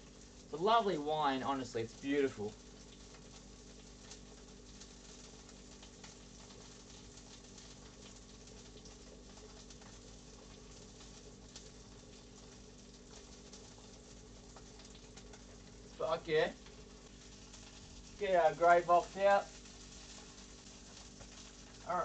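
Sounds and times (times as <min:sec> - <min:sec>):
low steady hum: 0:00.0 - 0:22.0
steak sizzling in a pan: 0:00.0 - 0:22.0.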